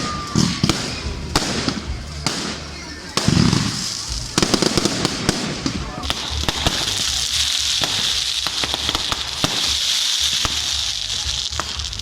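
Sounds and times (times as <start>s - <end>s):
fireworks hissing: 0.0s - 12.0s
fireworks popping and cracking: 0.0s - 12.0s.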